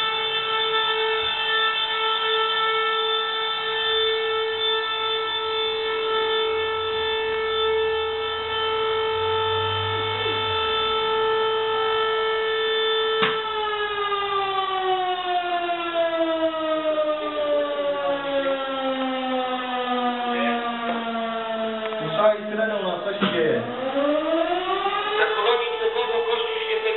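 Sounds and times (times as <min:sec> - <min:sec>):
siren wailing: 0:00.0 - 0:26.9.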